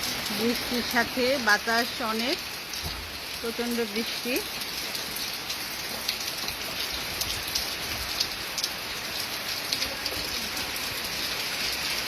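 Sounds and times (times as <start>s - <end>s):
heavy rain falling: 0.0s - 12.0s
raindrops ticking close by: 0.0s - 12.0s.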